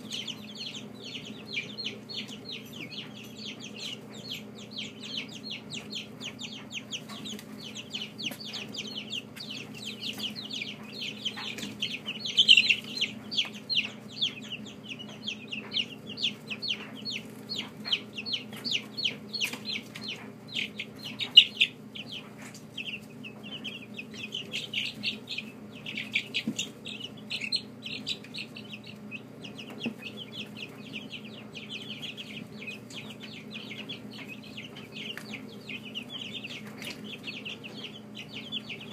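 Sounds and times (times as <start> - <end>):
chicks peeping: 0.0 - 38.9
steady low hum: 0.0 - 38.9.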